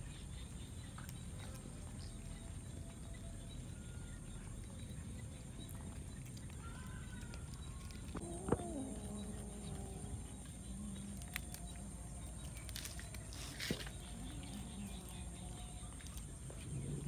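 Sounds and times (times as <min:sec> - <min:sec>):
cats feeding: 0:00.0 - 0:17.0.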